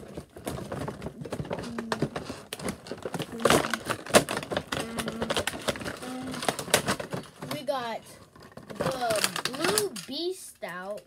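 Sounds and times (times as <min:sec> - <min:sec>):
cardboard rustling and scraping: 0:00.0 - 0:09.9.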